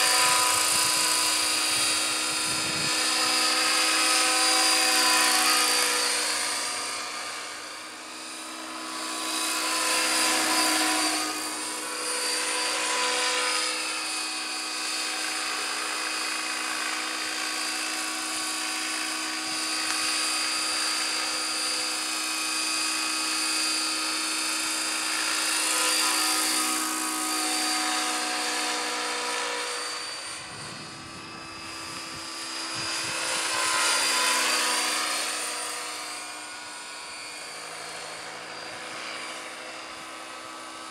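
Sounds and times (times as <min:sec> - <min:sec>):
model helicopter whine: 0:00.0 - 0:40.9.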